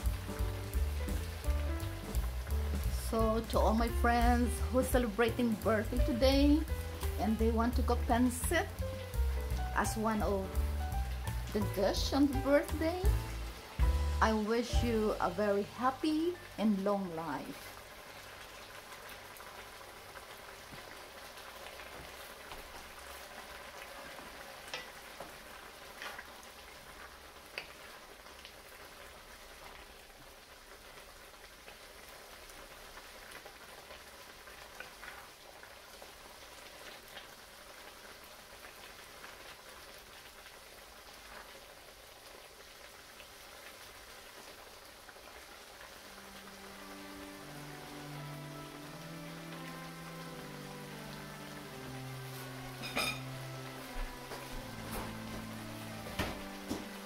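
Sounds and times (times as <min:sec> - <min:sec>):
noodles sizzling in a frying pan: 0:00.0 - 0:57.0.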